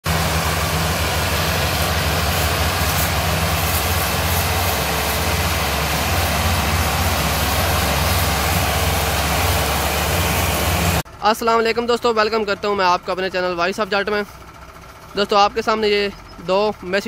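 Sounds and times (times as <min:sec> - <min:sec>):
tractor diesel engines under load: 0:00.0 - 0:17.0.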